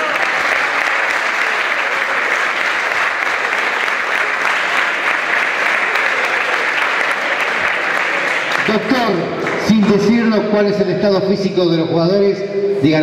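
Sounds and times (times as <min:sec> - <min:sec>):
people clapping: 0:00.0 - 0:10.6.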